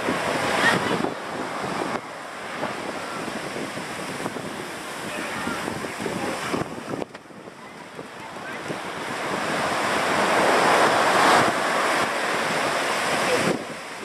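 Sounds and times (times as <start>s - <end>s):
ocean surf washing ashore: 0.0s - 14.0s
wind buffeting microphone: 0.0s - 14.0s.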